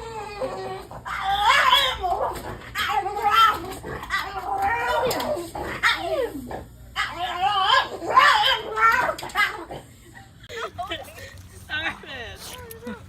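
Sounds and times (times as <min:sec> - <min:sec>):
dog whining: 0:00.0 - 0:09.9, 0:12.4 - 0:13.0.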